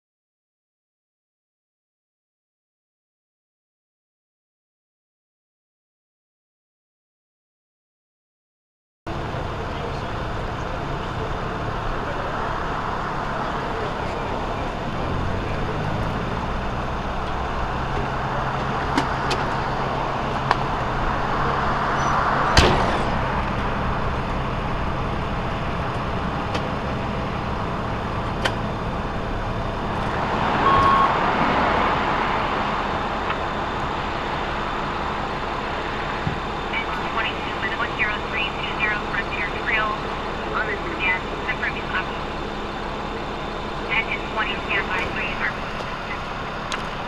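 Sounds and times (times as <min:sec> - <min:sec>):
idling engine hum: 0:09.1 - 0:47.0
road traffic going by: 0:09.1 - 0:47.0.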